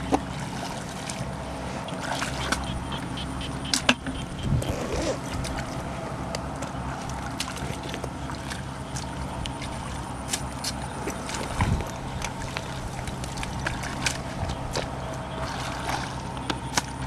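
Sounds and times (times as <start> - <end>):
hoe scraping mud in water: 0.0 - 17.0
wet mud squelches: 0.0 - 17.0.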